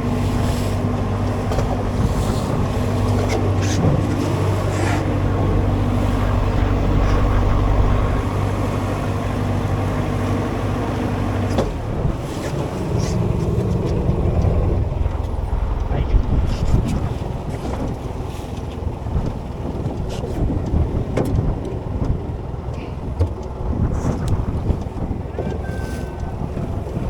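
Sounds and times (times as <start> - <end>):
boat engine idling: 0.0 - 27.0
wind buffeting microphone: 0.0 - 27.0.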